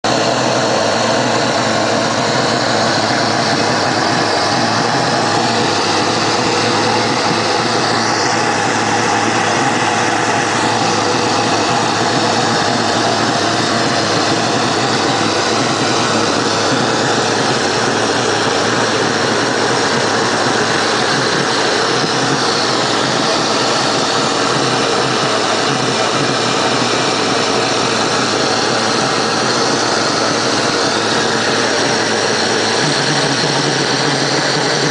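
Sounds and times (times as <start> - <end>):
furnace burner rushing: 0.0 - 34.9.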